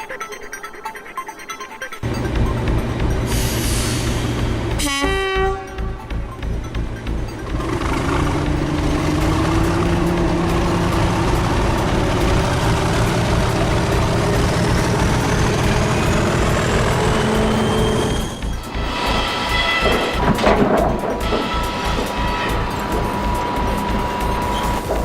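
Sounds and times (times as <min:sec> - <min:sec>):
heavy engine rumbling: 0:02.0 - 0:25.0.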